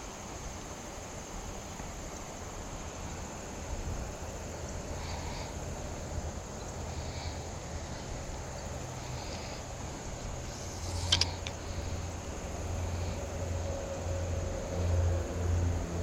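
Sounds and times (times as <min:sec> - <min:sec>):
creek hiss: 0:00.0 - 0:16.0.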